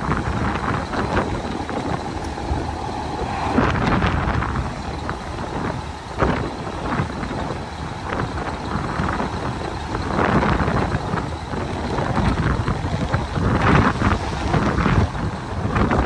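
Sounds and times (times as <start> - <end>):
dump truck engine rumble: 0.0 - 16.0.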